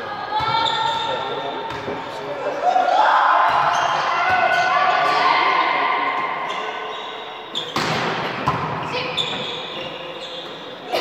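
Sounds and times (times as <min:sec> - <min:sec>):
voices in a hall: 0:00.0 - 0:11.0.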